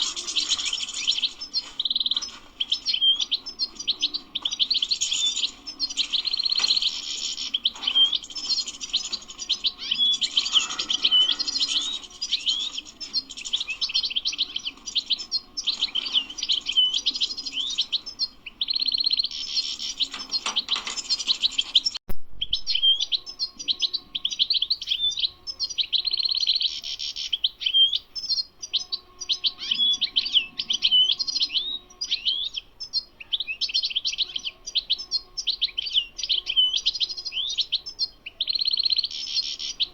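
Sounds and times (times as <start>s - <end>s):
goldfinch singing fast twittering: 0.0s - 39.9s.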